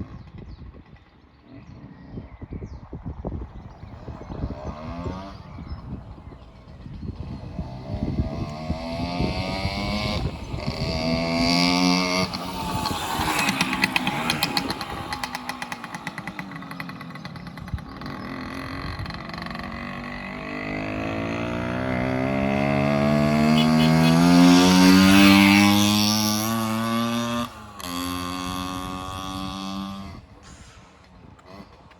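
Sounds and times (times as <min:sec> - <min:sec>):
two-stroke motorcycle engine revving: 0:03.5 - 0:31.9.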